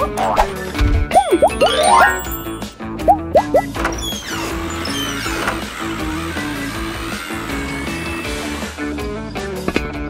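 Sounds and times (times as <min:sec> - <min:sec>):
cartoon background music: 0:00.0 - 0:09.7.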